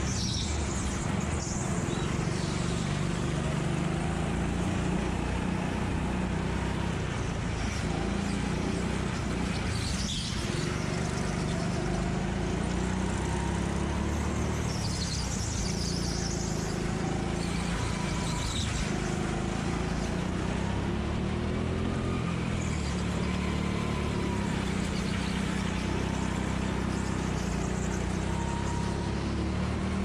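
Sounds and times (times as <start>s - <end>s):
go-kart engine running: 0.0s - 30.0s.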